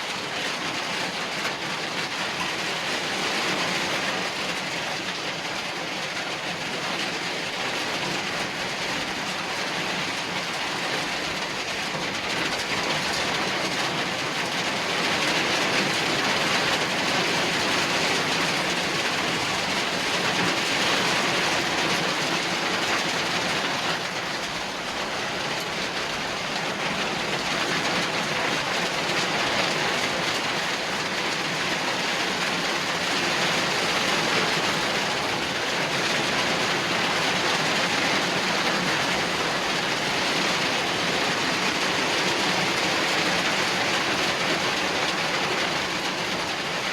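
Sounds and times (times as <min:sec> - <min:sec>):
heavy rain: 0:00.0 - 0:46.9.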